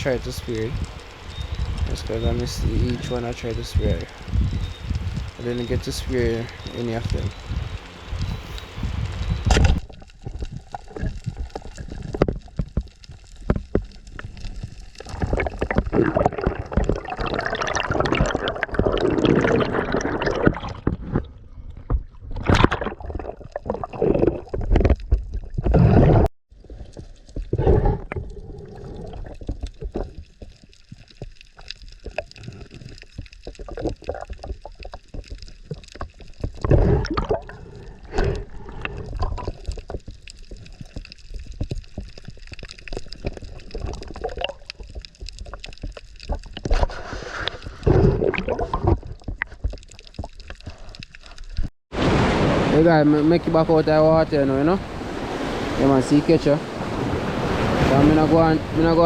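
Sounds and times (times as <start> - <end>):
water sloshing and gurgling: 0.0 - 59.0.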